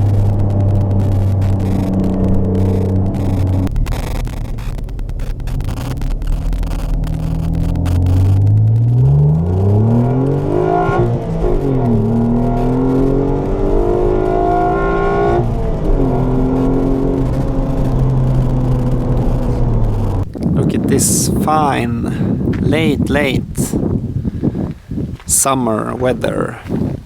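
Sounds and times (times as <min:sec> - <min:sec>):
car engine revving: 0:00.0 - 0:22.8
wind buffeting microphone: 0:00.0 - 0:27.0.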